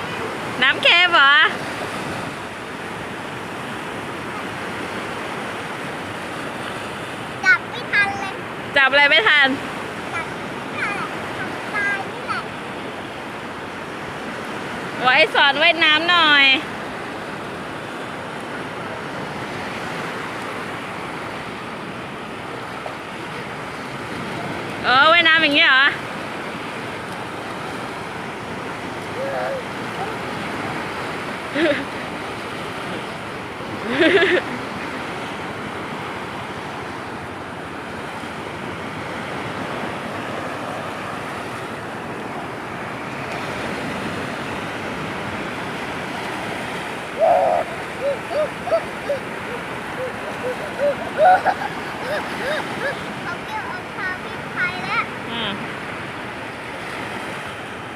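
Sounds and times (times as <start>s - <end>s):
waves washing onto beach: 0.0s - 57.9s.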